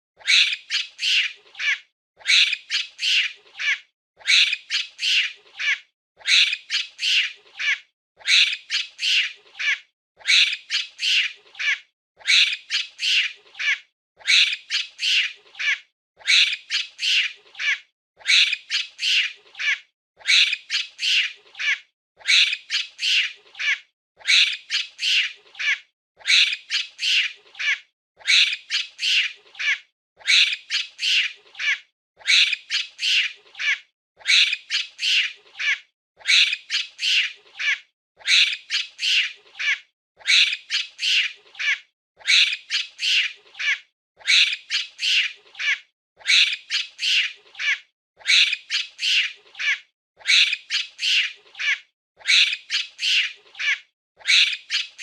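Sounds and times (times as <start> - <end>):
monkey high-pitched calls: 0.2 - 55.0.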